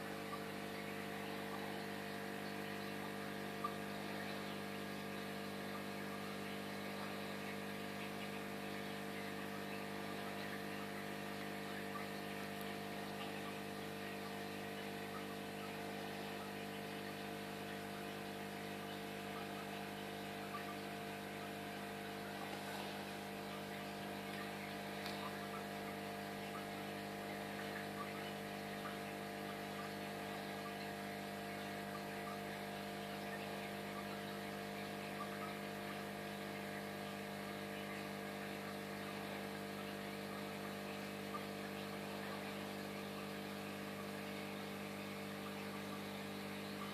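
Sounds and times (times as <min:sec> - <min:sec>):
aquarium pump humming: 0:00.0 - 0:46.9.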